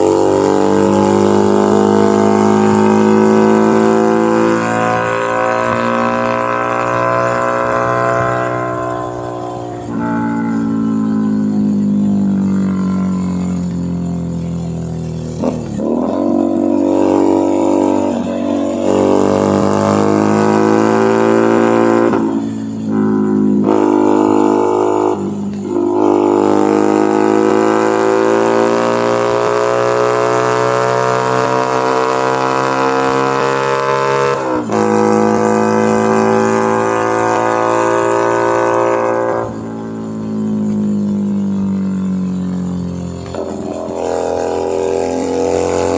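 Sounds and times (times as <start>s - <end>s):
motorcycle exhaust accelerating: 0.0s - 45.9s.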